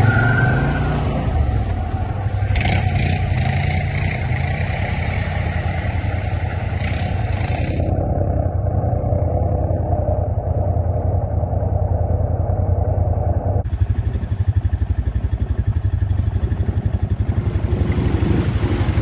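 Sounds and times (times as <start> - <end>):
atv engine low pulse: 0.0 - 19.0
muffled atv engine in water: 0.0 - 19.0.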